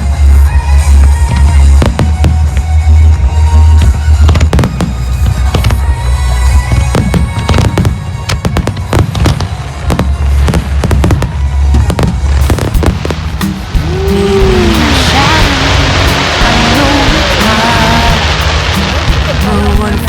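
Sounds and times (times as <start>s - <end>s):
show music with heavy bass: 0.0s - 7.9s, 8.6s - 20.0s
fireworks bangs and crackles: 0.0s - 20.0s.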